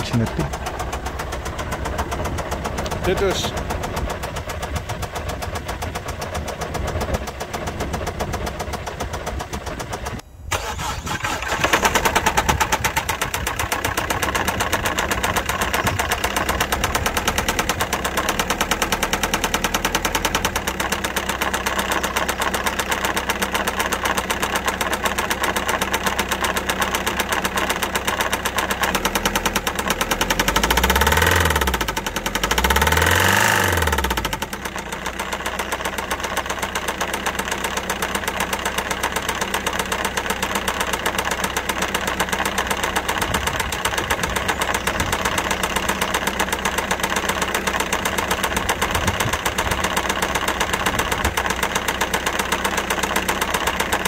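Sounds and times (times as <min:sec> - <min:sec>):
diesel engine knocking: 0:00.0 - 0:54.0.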